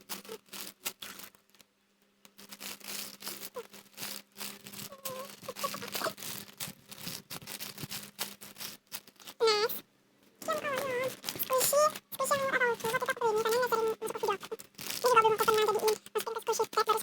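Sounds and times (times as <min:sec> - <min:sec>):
plastic scratching and rustling: 0:00.0 - 0:17.0.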